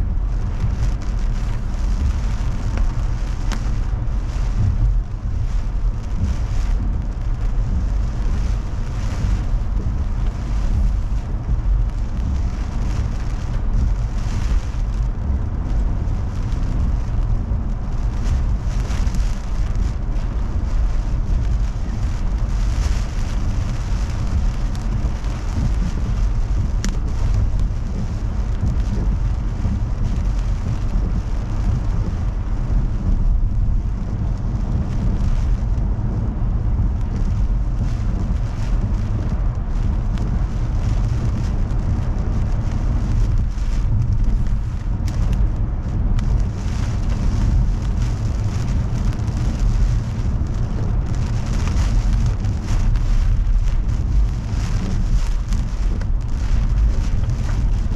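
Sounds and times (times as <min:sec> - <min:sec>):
car and road rumble: 0:00.0 - 0:57.9
heavy rain on a car: 0:00.0 - 0:57.9.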